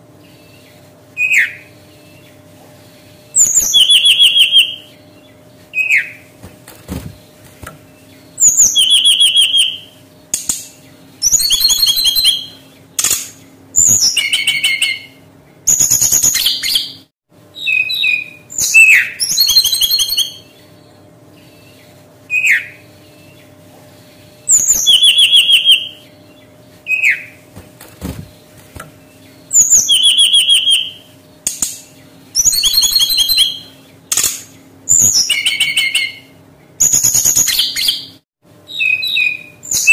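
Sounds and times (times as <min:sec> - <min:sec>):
bird singing trilled phrases: 0:00.3 - 0:02.5, 0:03.4 - 0:06.3, 0:06.9 - 0:23.6, 0:24.4 - 0:27.4, 0:28.0 - 0:39.9.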